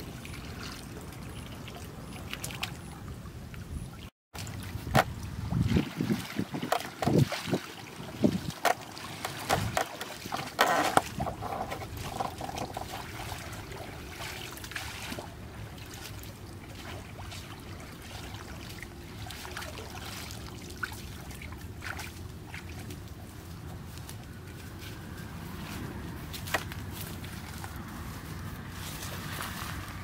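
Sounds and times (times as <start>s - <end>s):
muddy water splashing and sloshing: 0.0s - 30.0s.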